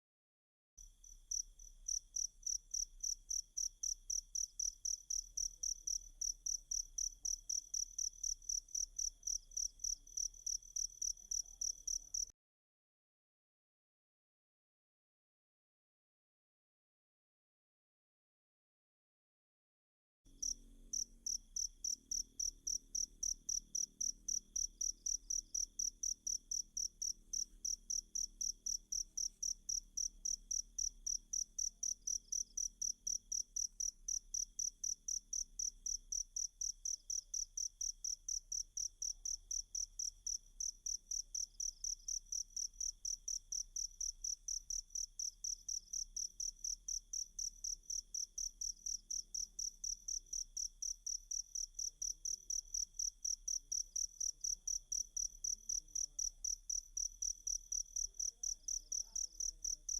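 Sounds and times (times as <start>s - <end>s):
cricket chirping: 0.8s - 12.3s, 20.3s - 59.9s
faint insect trill: 0.8s - 12.3s, 20.3s - 59.9s.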